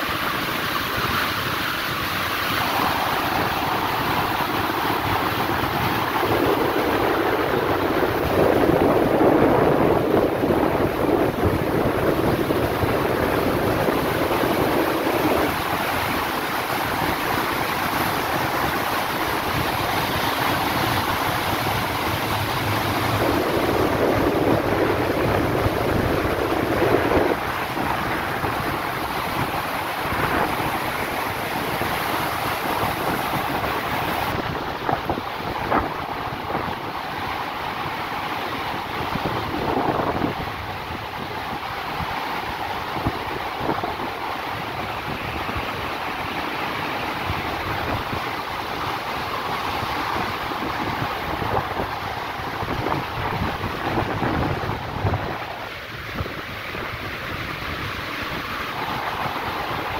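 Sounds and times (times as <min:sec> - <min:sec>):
ship wake water rushing: 0:00.0 - 0:59.9
wind buffeting microphone: 0:00.8 - 0:38.0, 0:38.7 - 0:59.9.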